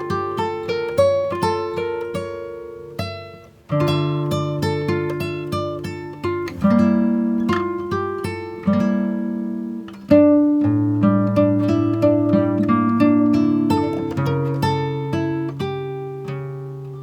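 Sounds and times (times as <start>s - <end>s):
acoustic guitar arpeggios: 0.0s - 17.0s.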